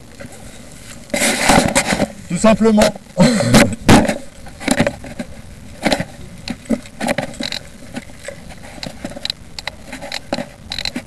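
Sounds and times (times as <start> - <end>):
knocks and scraping of handled model: 0.2 - 2.2, 3.9 - 11.0.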